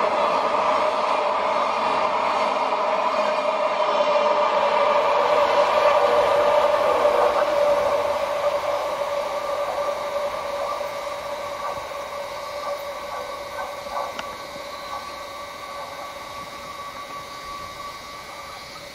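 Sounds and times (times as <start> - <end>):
steady high ringing tone: 0.0 - 18.9
train rolling on rails: 0.0 - 18.9.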